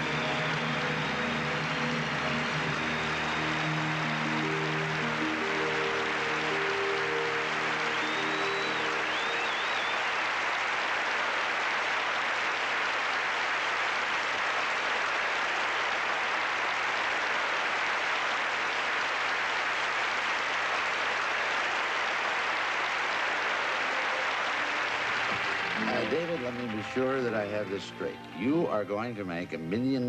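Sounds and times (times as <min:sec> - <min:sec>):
audience applauding: 0:00.0 - 0:30.0.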